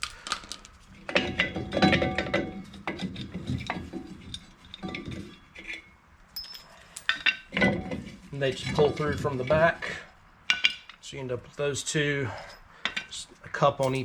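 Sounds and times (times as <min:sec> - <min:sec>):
steel brake parts clinking: 0:00.0 - 0:09.7, 0:10.5 - 0:11.0, 0:12.3 - 0:14.0.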